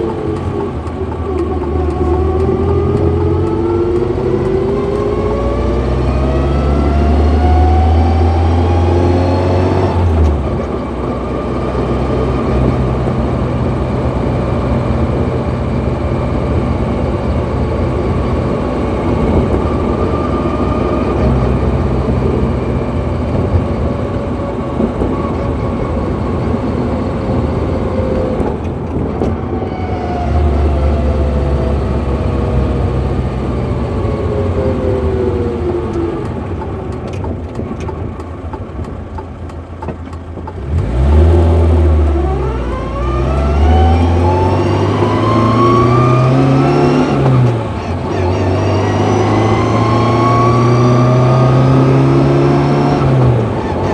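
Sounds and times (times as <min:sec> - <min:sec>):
gearbox whine: 0:00.0 - 0:53.9
low engine drone: 0:00.0 - 0:53.9.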